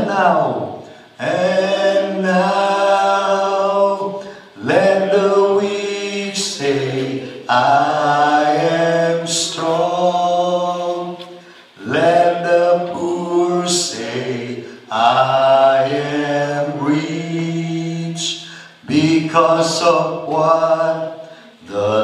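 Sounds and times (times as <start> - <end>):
voices singing worship song: 0.0 - 22.0.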